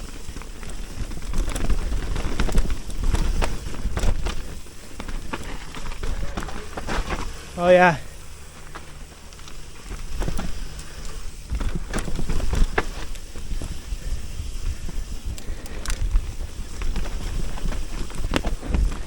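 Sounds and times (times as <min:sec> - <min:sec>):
bike rattling over bumps: 0:00.0 - 0:19.0
tyres rumbling on dirt: 0:00.0 - 0:19.0.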